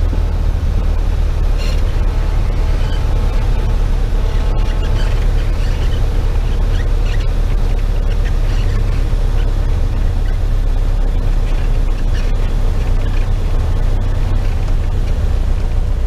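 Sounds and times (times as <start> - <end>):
piston engine drone: 0.0 - 16.0.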